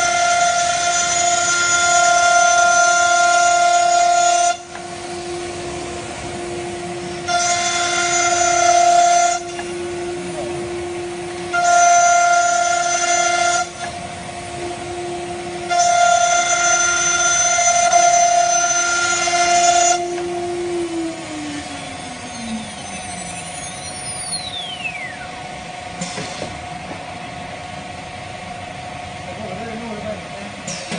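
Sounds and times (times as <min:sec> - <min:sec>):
cnc router spindle whining: 0:00.0 - 0:30.6.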